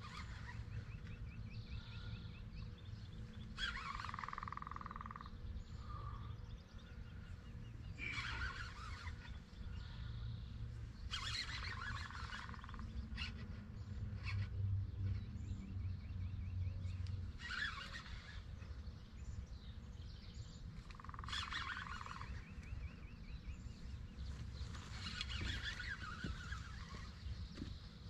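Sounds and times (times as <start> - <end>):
birds chattering chirps: 0.0 - 28.0
buzzy bird trill: 0.0 - 28.0.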